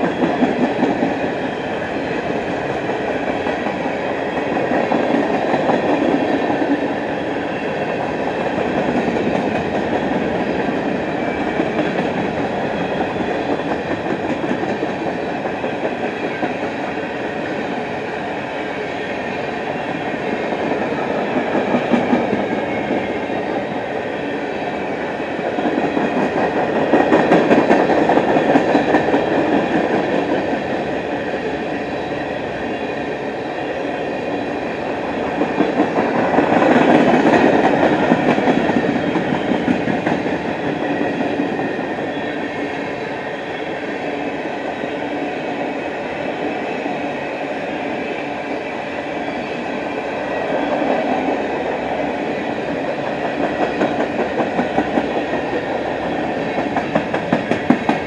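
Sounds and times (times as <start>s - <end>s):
freight train wheels on rail: 0.0s - 58.0s.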